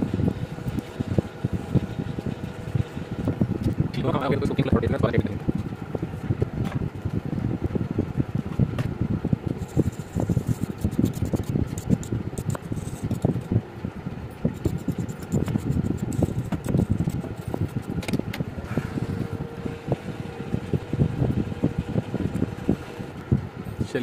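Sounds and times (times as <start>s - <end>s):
hot-air blower rushing: 0.0s - 24.0s.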